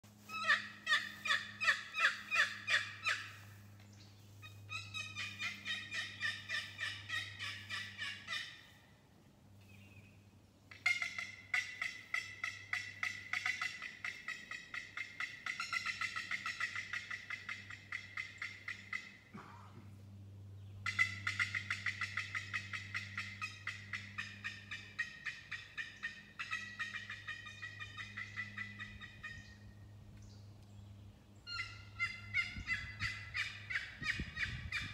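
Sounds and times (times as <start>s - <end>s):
turkey box call: 0.2s - 3.6s, 4.4s - 8.8s, 10.7s - 19.8s, 20.8s - 29.7s, 31.4s - 34.9s.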